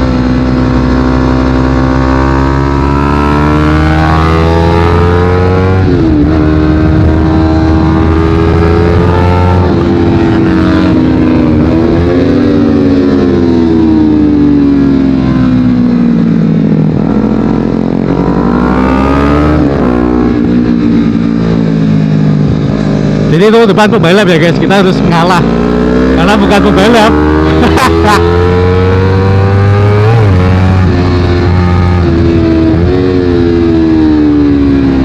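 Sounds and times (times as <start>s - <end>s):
motorcycle engine revving through gears: 0.0s - 35.0s.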